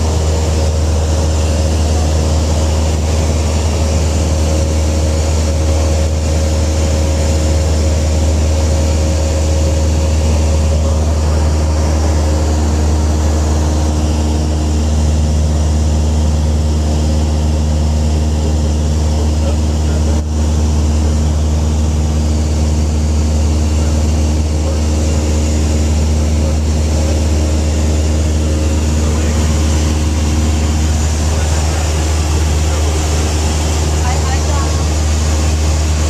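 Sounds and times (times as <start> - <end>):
airplane engine deep hum: 0.0 - 36.0.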